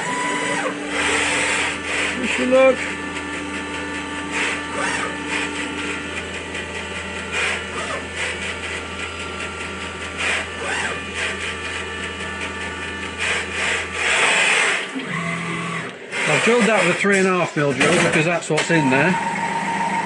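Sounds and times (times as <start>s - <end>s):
machine spindle whooshing: 0.0s - 18.2s
milling machine hum: 0.0s - 20.0s.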